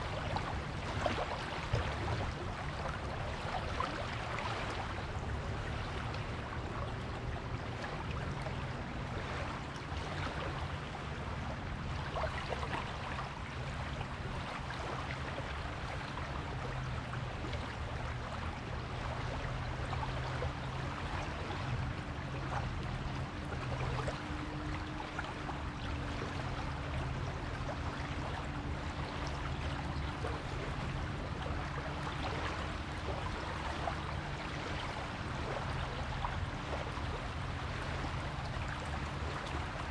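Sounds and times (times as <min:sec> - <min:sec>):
small waves washing on shore: 0:00.0 - 0:39.9.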